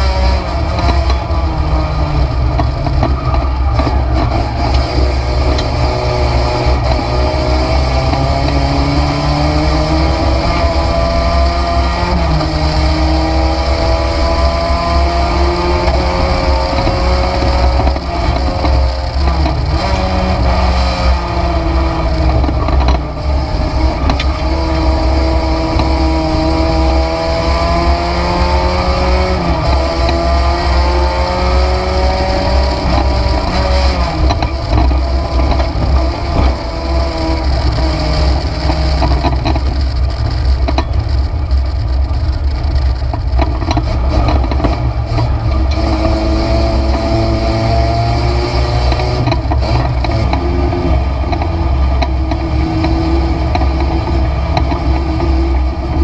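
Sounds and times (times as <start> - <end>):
heavy low rumble: 0.0 - 56.0
race car engine accelerating: 0.0 - 56.0.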